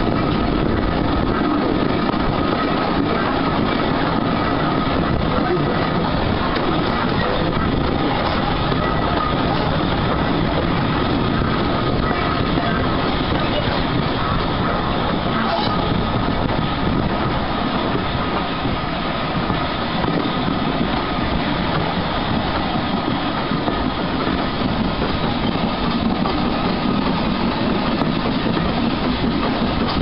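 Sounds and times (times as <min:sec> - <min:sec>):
steam locomotive running: 0:00.0 - 0:30.0
wheels clattering on rails: 0:00.0 - 0:30.0.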